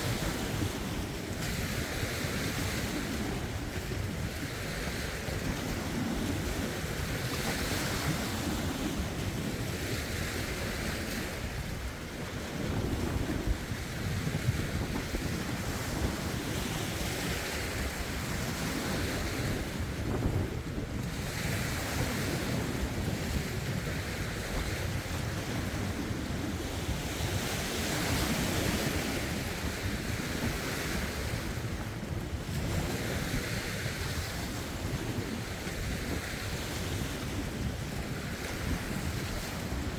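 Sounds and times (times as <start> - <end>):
waves washing over rocks: 0.0 - 39.9
wind buffeting microphone: 0.0 - 39.9.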